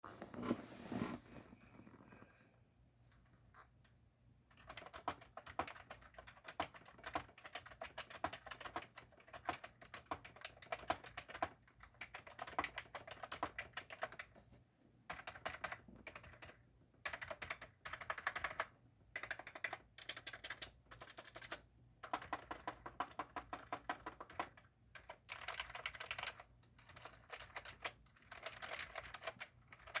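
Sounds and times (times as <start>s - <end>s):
fast keyboard typing: 4.5s - 14.3s, 15.1s - 30.0s.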